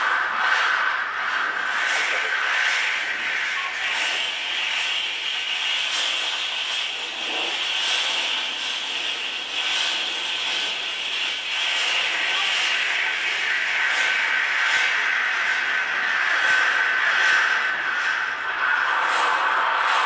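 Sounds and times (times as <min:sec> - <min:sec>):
hissing rubbing noise texture: 0:00.0 - 0:20.0.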